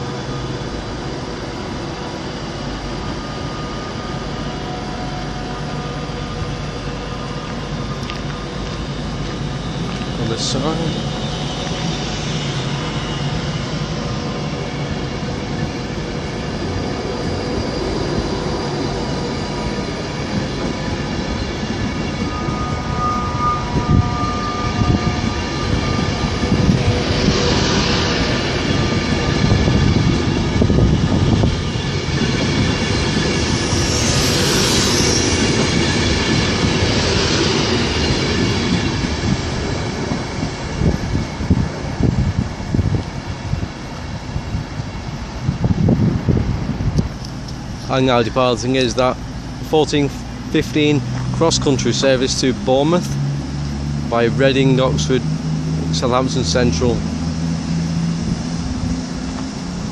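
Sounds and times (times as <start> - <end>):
electric train hum: 0.0 - 59.9.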